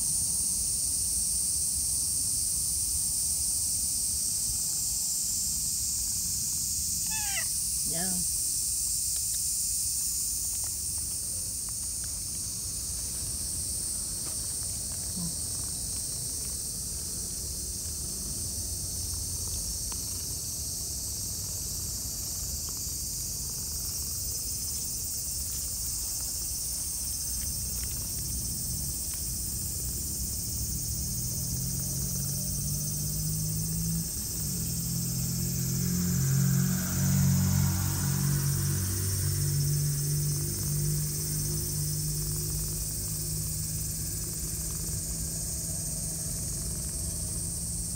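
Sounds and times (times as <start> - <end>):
insects chorus: 0.0 - 47.9.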